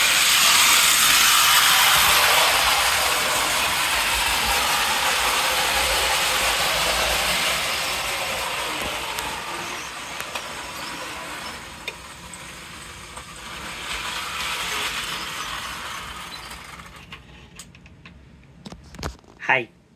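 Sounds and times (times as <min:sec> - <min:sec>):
model train whirring clatter: 0:00.0 - 0:18.2.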